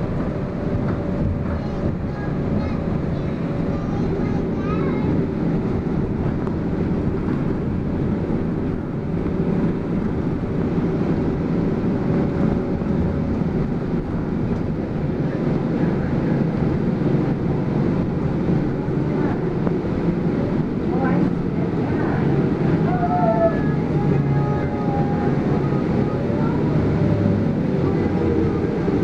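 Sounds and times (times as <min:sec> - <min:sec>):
bus engine drone: 0:00.0 - 0:29.0
road noise: 0:00.0 - 0:29.0.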